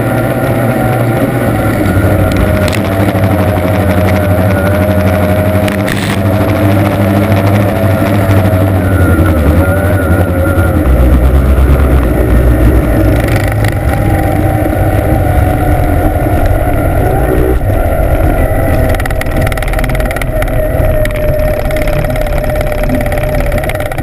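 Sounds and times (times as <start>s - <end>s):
racing boat engine running: 0.0s - 24.0s
rush of wind and water: 0.0s - 24.0s.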